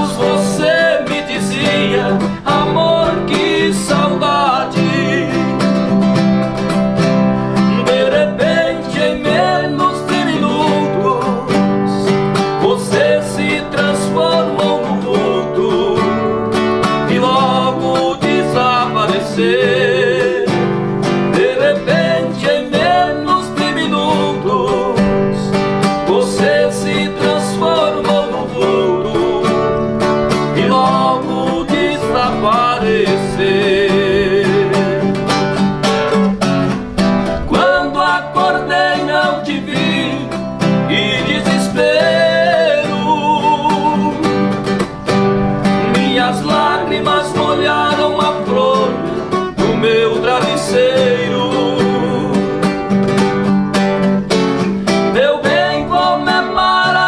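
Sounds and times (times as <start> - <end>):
person singing: 0.0 - 35.3, 37.3 - 44.9, 45.8 - 53.0, 55.0 - 57.0
acoustic guitars playing: 0.0 - 57.0.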